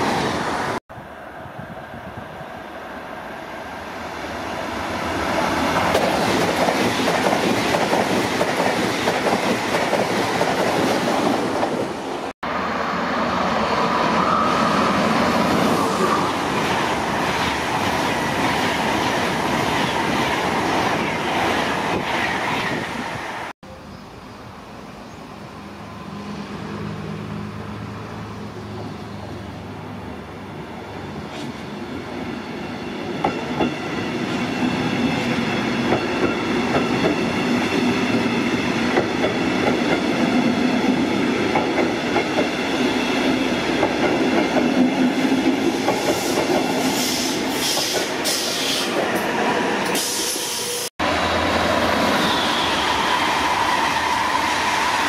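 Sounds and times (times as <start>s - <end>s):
trains rushing past on rails: 0.0s - 23.5s, 24.4s - 55.0s
electric train hum: 0.0s - 55.0s.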